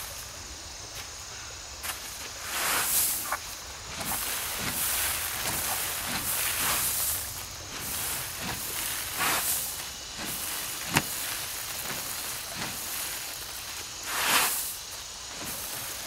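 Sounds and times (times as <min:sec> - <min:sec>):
winnowing fan whooshing: 0:02.4 - 0:16.0.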